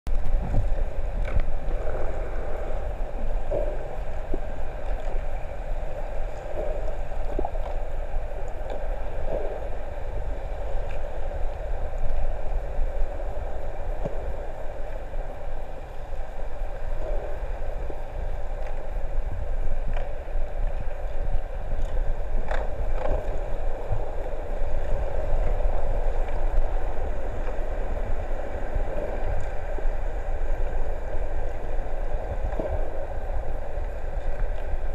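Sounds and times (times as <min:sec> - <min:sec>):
underwater low rumble: 0:00.1 - 0:34.9.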